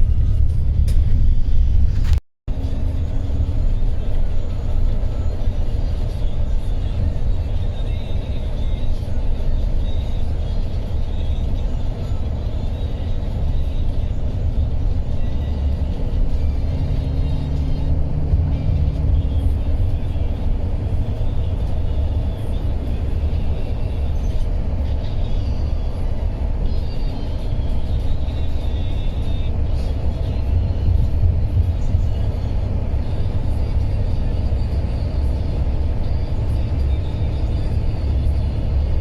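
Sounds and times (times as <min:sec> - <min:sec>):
coach driving on highway rumble: 0:00.0 - 0:39.0.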